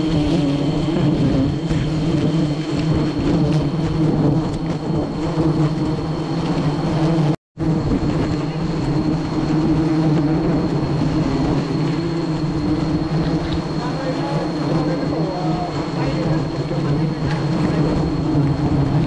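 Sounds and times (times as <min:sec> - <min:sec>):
honeybee swarm buzzing: 0:00.0 - 0:19.0.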